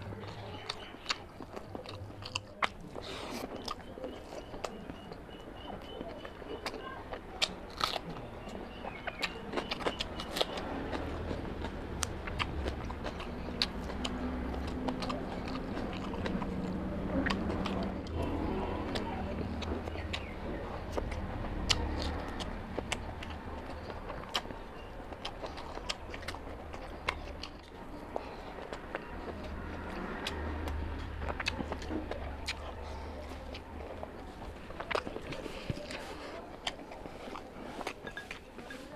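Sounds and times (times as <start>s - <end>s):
mouth chewing food: 0.0s - 38.9s.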